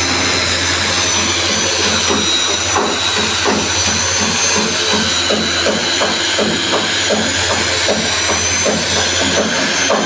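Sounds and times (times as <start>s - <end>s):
power sander on wood: 0.0s - 10.0s.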